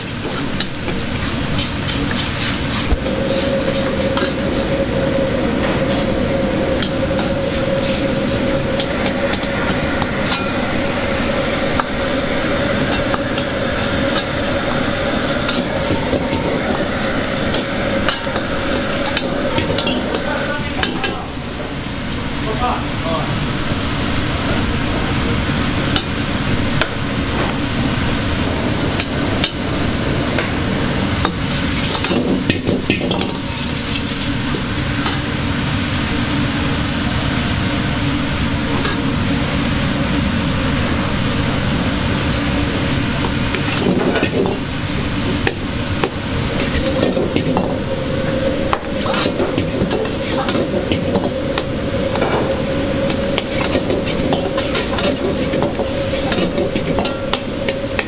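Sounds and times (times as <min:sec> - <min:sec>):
rice sizzling in wok: 0:00.0 - 0:58.0.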